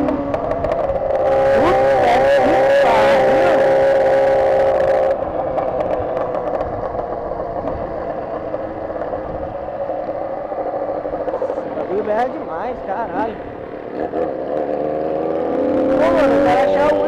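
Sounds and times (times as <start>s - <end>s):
motorcycle engine revving: 0.0s - 17.0s
road and wind noise: 0.0s - 17.0s.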